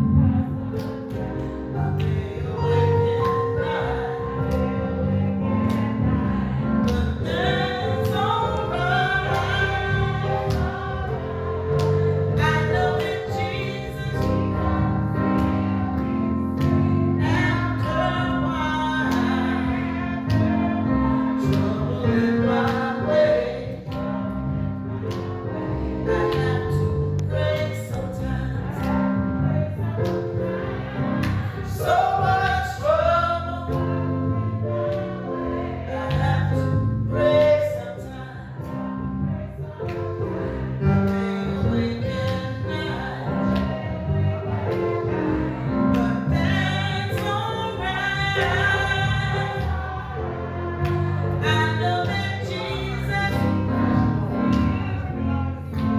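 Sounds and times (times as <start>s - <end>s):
instrumental accompaniment with bass: 0.0s - 55.9s
voices singing gospel: 0.0s - 55.9s.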